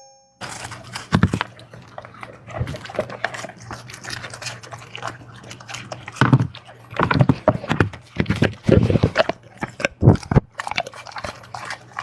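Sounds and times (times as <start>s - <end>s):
dog chewing and smacking: 0.4s - 12.0s.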